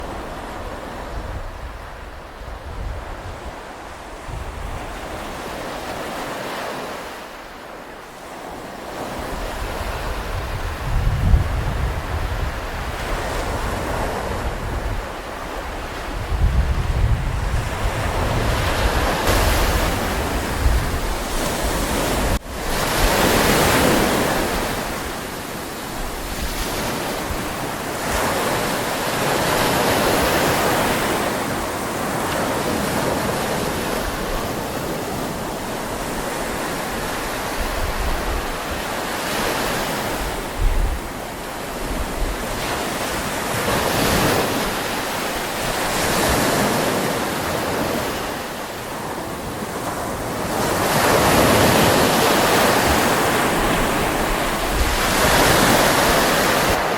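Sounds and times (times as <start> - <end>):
sea waves washing ashore: 0.0 - 56.9
wind gusting across microphone: 0.0 - 56.9.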